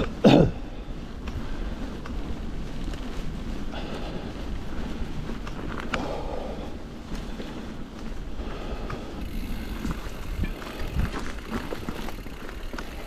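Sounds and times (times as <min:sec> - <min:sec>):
bicycle tyre rumble on dirt: 0:00.0 - 0:13.0
bike clicks and rattles: 0:00.0 - 0:13.0
wind buffeting microphone: 0:00.0 - 0:13.0.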